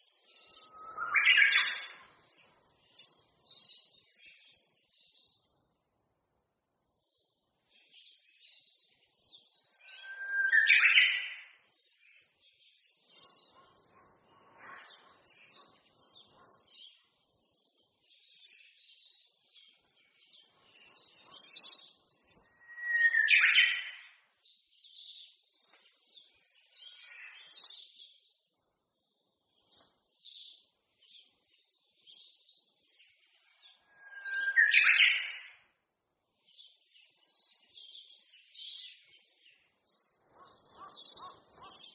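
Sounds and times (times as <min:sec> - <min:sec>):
bird singing loud short song: 0:00.0 - 0:05.6, 0:07.0 - 0:14.0, 0:14.6 - 0:35.7, 0:36.4 - 0:41.9
small high bird chirps: 0:00.0 - 0:05.7, 0:07.0 - 0:14.1, 0:14.7 - 0:35.8, 0:36.4 - 0:41.9.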